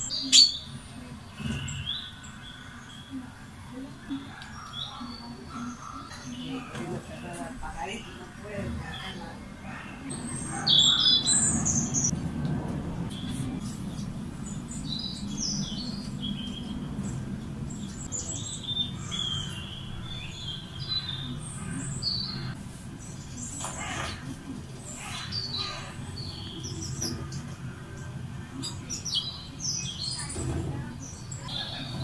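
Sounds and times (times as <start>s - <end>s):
songbirds chirping and trilling: 0.0s - 32.0s
steady low hum: 0.0s - 32.0s.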